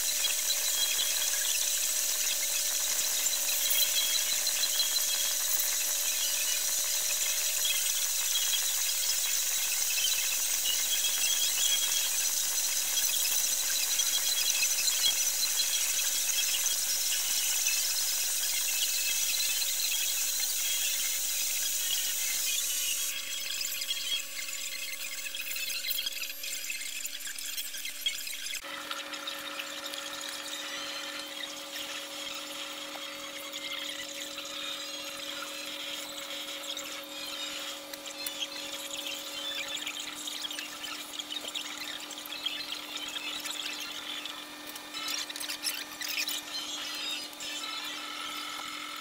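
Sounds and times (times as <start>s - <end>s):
small power tool grinding: 0.0s - 49.0s.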